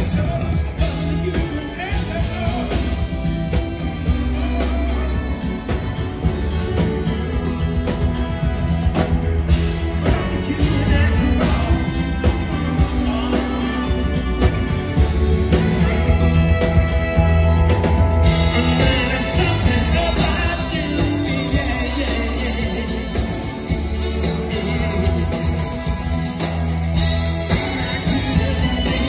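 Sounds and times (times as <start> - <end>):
man singing lead vocal: 0.0 - 7.6, 9.5 - 29.0
live pop-rock band playing: 0.0 - 29.0.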